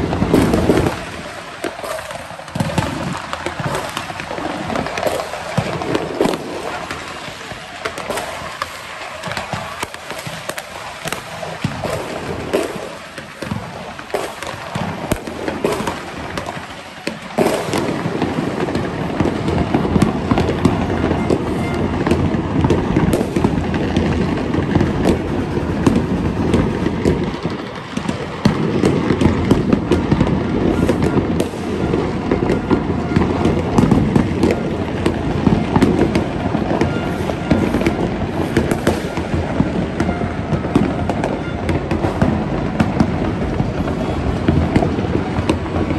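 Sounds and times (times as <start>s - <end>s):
fireworks banging and crackling: 0.0s - 45.9s.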